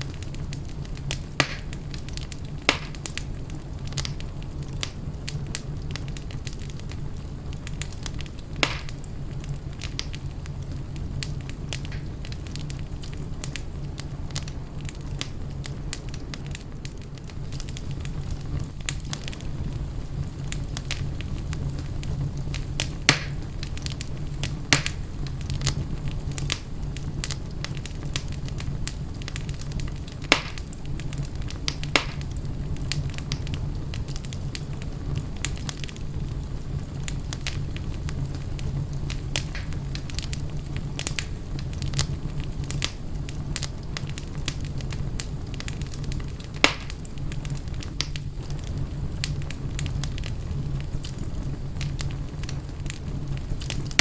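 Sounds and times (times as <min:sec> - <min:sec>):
fire crackling: 0:00.0 - 0:54.0
fire pops and snaps: 0:00.0 - 0:54.0
low rumble of flames: 0:00.0 - 0:54.0.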